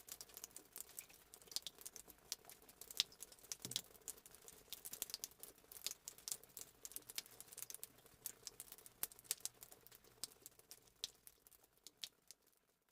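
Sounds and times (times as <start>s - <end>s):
raindrops pattering: 0.0s - 12.9s.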